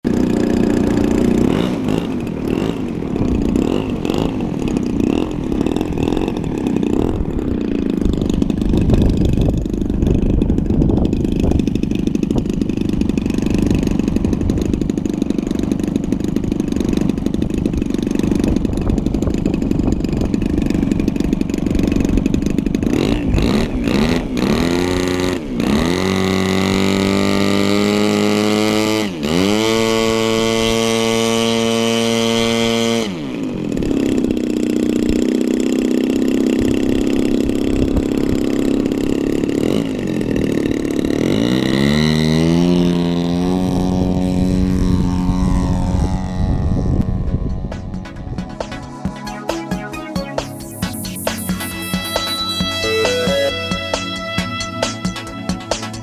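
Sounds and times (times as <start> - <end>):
small piston engine revving: 0.0 - 53.9.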